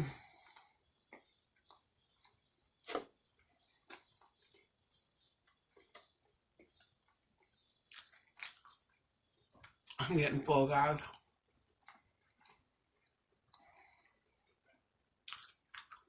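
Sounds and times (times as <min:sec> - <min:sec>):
mouth chewing food: 0:00.4 - 0:10.0, 0:11.0 - 0:16.0.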